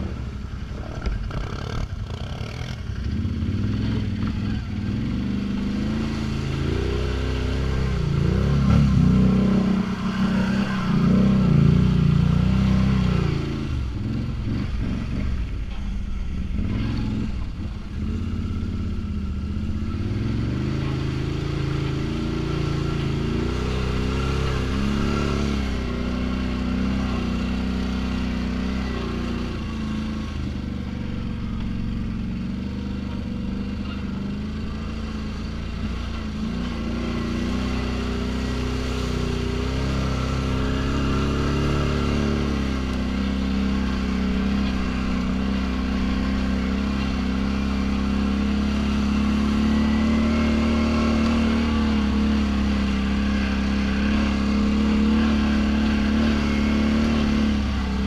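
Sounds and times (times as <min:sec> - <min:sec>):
quad bike engine revving: 0:00.0 - 0:15.6, 0:16.3 - 0:58.0.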